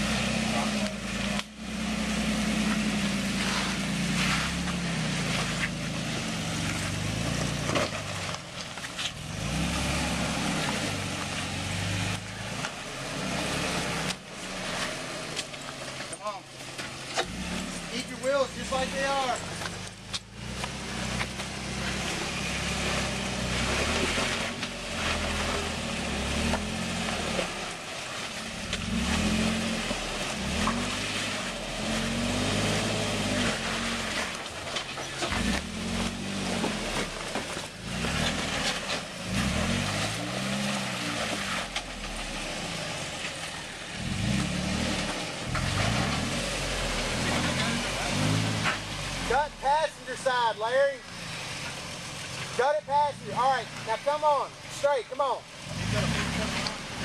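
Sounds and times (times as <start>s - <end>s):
pickup truck engine revving: 0.0s - 8.4s, 9.0s - 57.0s.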